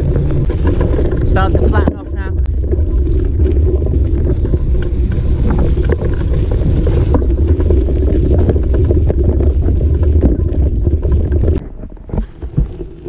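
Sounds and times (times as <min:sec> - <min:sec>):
bike rattling over stones: 0:00.0 - 0:13.0
wind rumble on microphone: 0:00.0 - 0:13.0.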